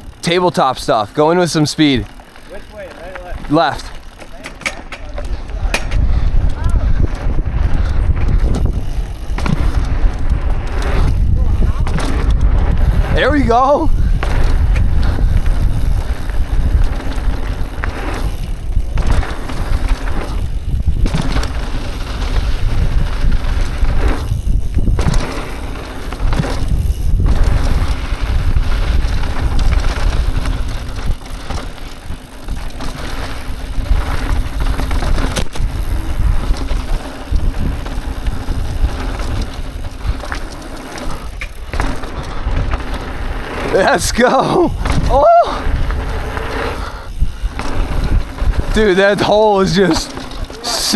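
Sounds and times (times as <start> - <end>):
bike tyres rattling over dirt: 0.0 - 50.9
wind rushing over microphone: 5.0 - 50.9.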